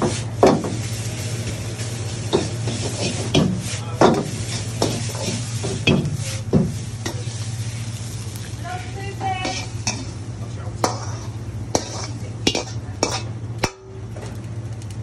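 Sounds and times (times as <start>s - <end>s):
ladle scraping and knocking wok: 0.0s - 8.6s, 9.2s - 14.1s
rice sizzling: 0.0s - 15.0s
steady low hum: 0.0s - 15.0s.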